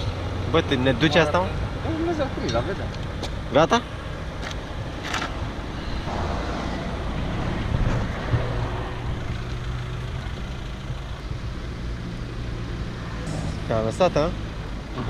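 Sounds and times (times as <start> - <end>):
car engine droning: 0.0 - 15.0
road and wind noise: 0.0 - 15.0.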